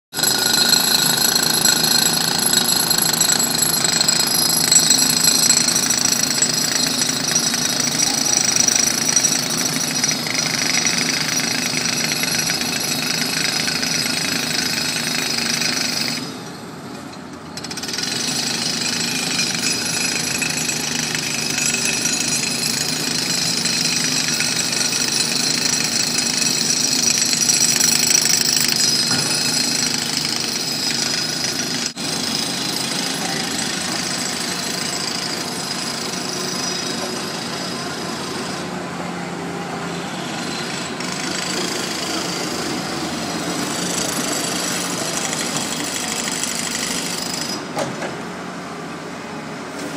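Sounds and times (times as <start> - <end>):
jackhammer breaking street surface: 0.2 - 38.7, 40.1 - 48.1.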